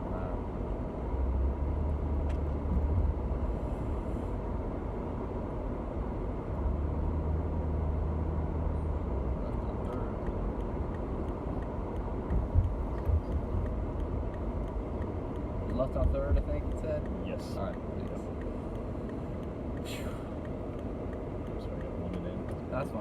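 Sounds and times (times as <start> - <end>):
tyres and engine rumbling: 0.0 - 23.0.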